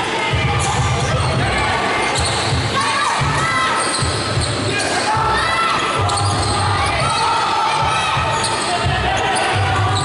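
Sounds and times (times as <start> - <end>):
voices of players and spectators: 0.0 - 10.0
sneakers squeaking: 0.4 - 10.0.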